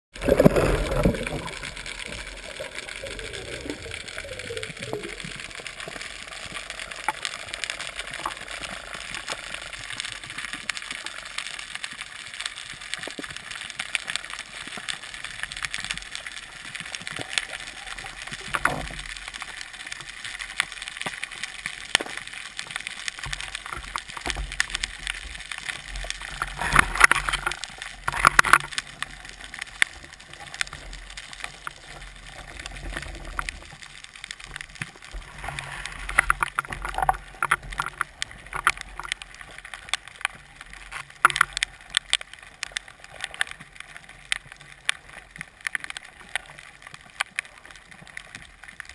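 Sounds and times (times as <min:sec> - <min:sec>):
crackle of tiny clicks underwater: 0:00.1 - 0:48.9
underwater rush of water: 0:00.1 - 0:48.9
water swishes: 0:00.1 - 0:48.9.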